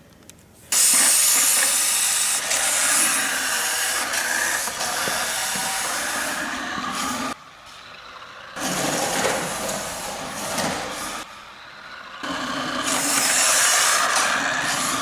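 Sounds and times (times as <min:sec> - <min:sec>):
rc car motor whirring: 0:00.7 - 0:15.0.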